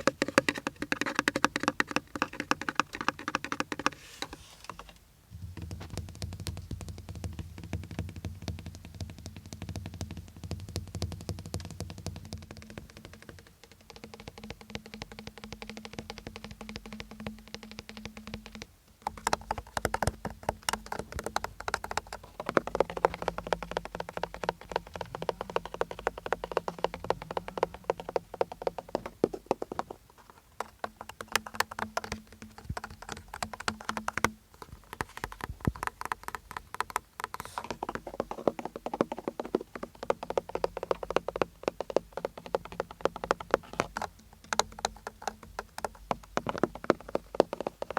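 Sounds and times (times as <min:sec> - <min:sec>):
fast tapping: 0:00.0 - 0:47.9.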